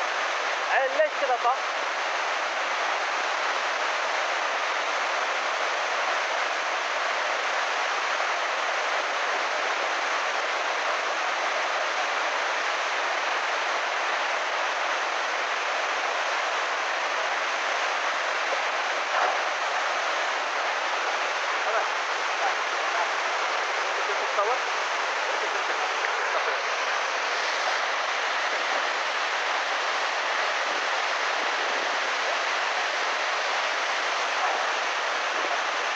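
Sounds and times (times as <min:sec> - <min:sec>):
flood water rushing: 0:00.0 - 0:35.9.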